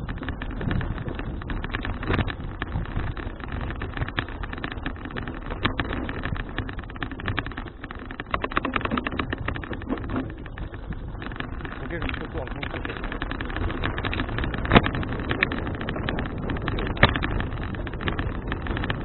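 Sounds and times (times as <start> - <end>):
fast rattling: 0.0 - 19.0
wind and tyre rumble: 0.0 - 19.0.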